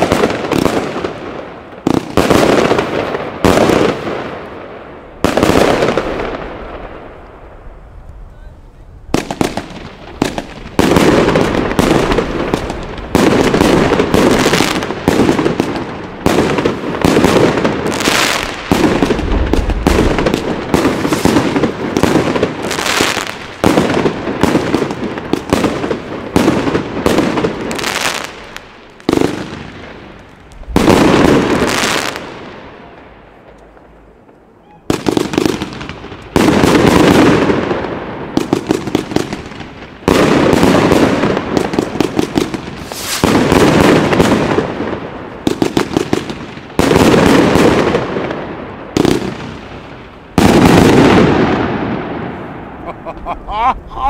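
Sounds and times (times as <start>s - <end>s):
fireworks shots and bursts: 0.0s - 34.0s, 34.8s - 54.0s.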